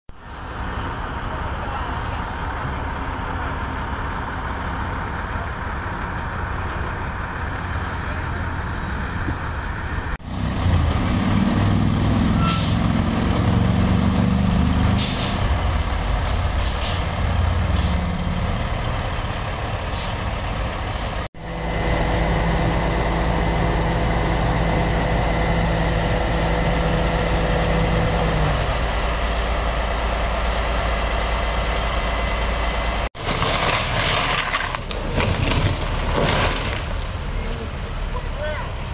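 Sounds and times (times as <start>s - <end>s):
heavy truck engine running: 0.1s - 38.9s.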